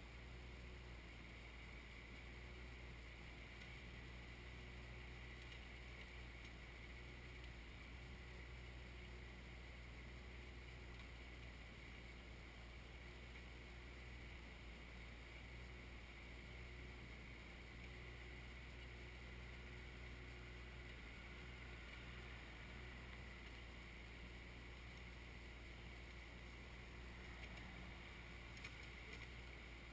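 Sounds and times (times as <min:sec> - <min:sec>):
faint tractor diesel engine running: 0:00.0 - 0:29.9.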